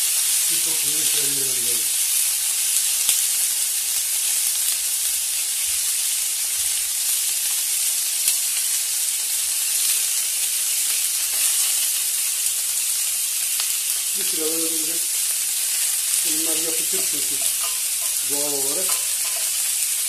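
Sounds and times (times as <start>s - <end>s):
fish searing on grill pan: 0.0s - 20.0s
vegetables sauteing in pot: 0.0s - 20.0s.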